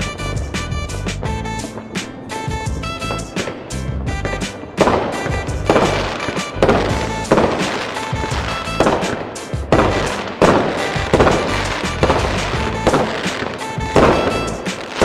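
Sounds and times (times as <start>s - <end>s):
fireworks banging: 0.0s - 15.0s
music playing: 0.0s - 15.0s.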